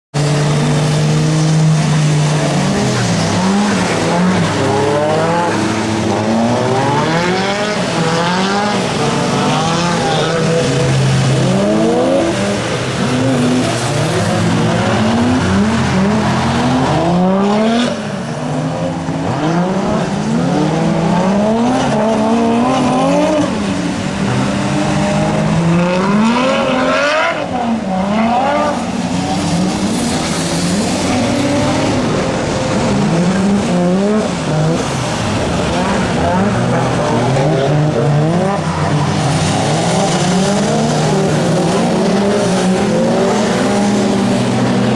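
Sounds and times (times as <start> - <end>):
race car engines revving: 0.1 - 44.9.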